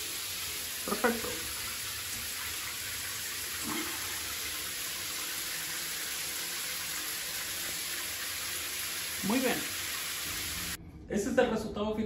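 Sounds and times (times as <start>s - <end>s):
shower spraying on tiles: 0.0s - 10.8s.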